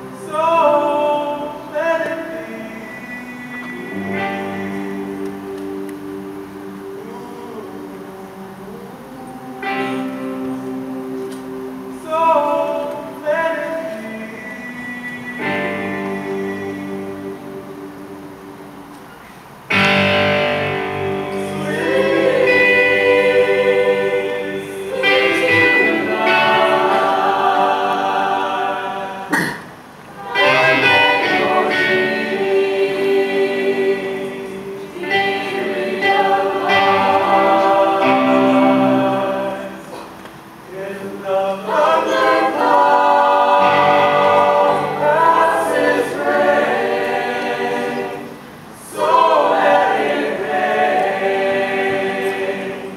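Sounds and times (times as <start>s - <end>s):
choir singing: 0.0s - 52.9s.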